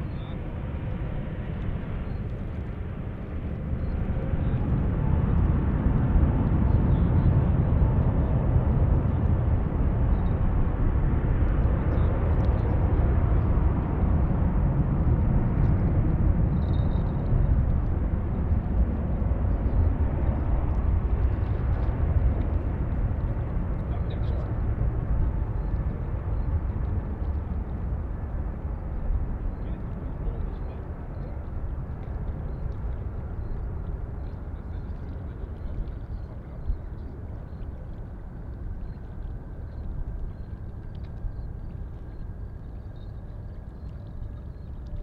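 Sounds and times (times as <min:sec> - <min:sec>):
faint engine whine: 0:00.0 - 0:45.0
jet engines rumbling: 0:00.0 - 0:45.0.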